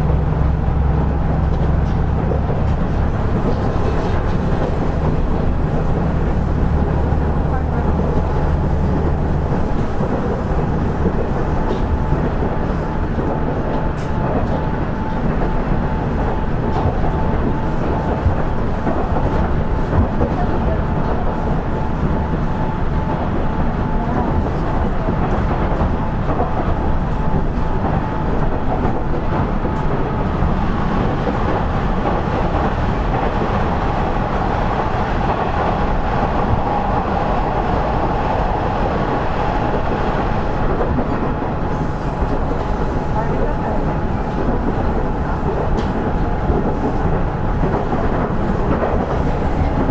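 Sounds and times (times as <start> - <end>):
railcar engine and wheels rumbling: 0.0 - 49.9.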